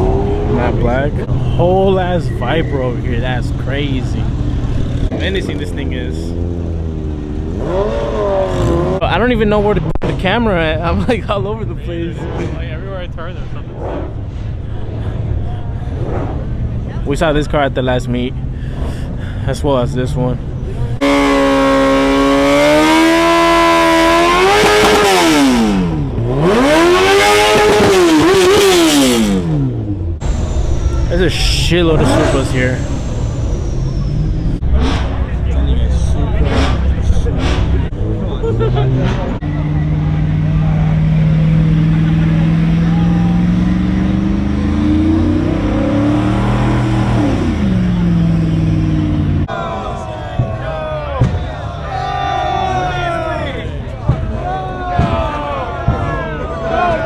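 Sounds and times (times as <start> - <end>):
voices: 0.0 - 29.3, 30.2 - 57.0
car engine revving: 0.0 - 50.4.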